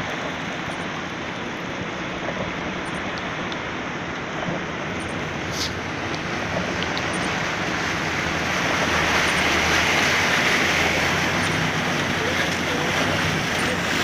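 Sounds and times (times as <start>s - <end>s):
low engine hum: 0.0s - 14.0s
rushing of rain and floodwater: 0.0s - 14.0s.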